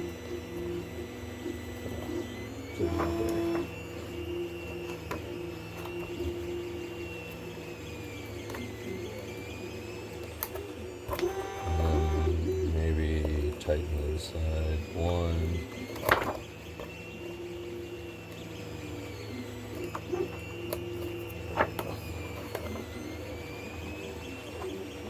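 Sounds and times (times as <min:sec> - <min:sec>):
mechanical hum with faint whine: 0:00.0 - 0:25.0.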